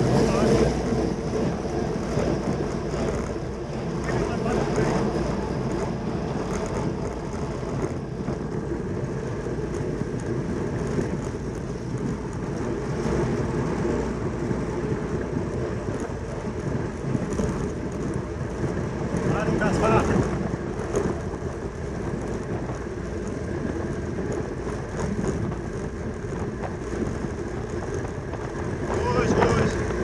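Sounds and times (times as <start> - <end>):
bicycle tyres at racing speed: 0.0 - 30.0.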